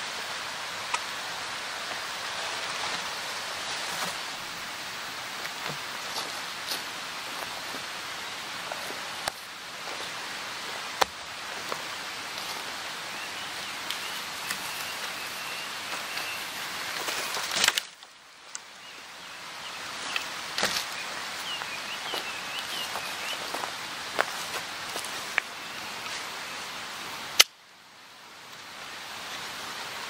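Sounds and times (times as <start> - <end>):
rain hissing: 0.0 - 30.0.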